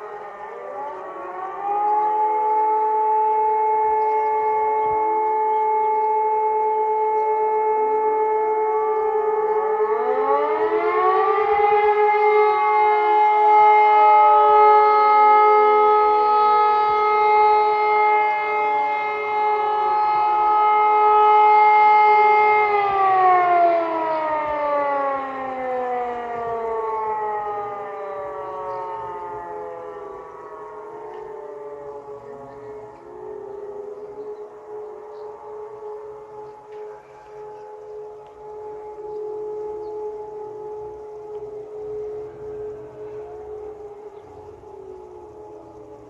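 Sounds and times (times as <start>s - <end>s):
civil defence sirens: 0.0s - 46.0s.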